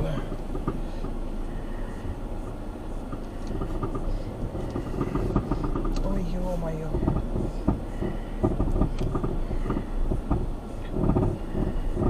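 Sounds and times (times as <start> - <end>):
caravan squeaking: 0.0 - 12.0
engine and road rumble: 0.0 - 12.0.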